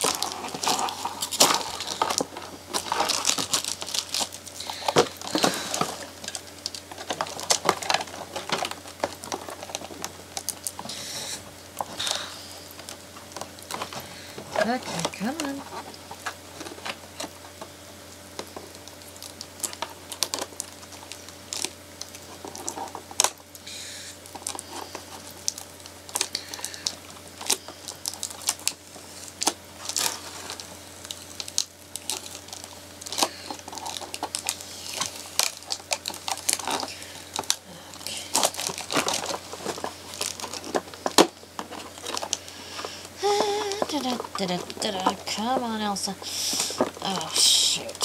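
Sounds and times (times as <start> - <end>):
packaging tearing: 0.0 - 17.6, 18.4 - 48.0
packaging crinkling and rustling: 0.0 - 48.0.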